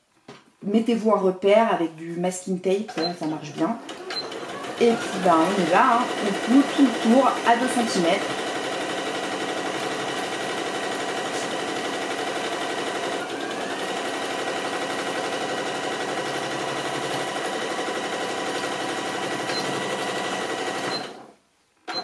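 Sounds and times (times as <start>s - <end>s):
sewing machine stitching: 2.9s - 21.3s.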